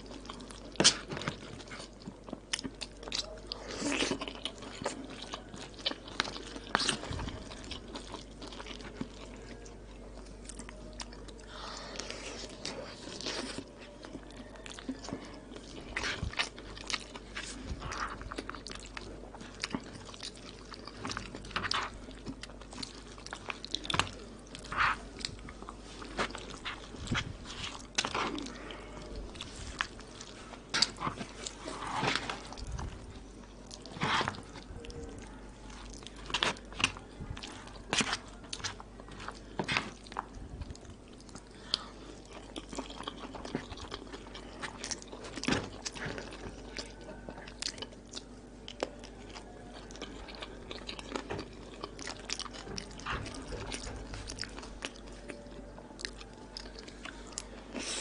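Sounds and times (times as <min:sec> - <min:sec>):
food crunching: 0:00.0 - 0:58.0
wet chewing: 0:00.0 - 0:58.0.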